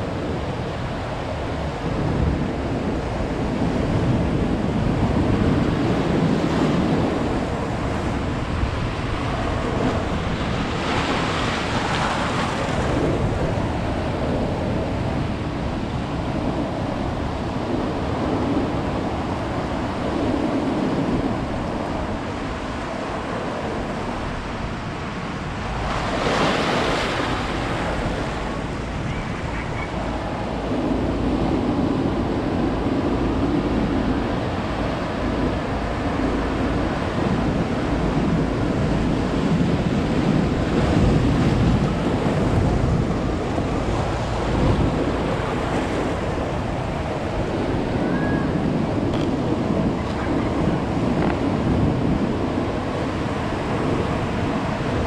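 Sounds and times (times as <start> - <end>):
ocean waves breaking: 0.0 - 55.0
wind buffeting microphone: 0.0 - 55.0.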